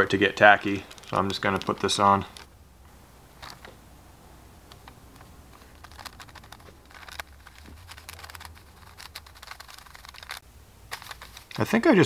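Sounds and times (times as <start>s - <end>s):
gold leaf crinkling under fingertips: 0.0s - 2.6s, 3.3s - 3.7s, 4.7s - 12.0s.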